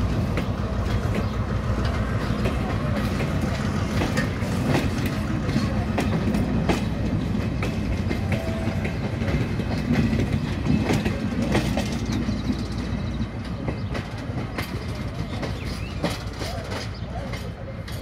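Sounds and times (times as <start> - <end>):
train coaches rolling past: 0.0 - 18.0
wheels clacking over rail joints: 0.0 - 18.0.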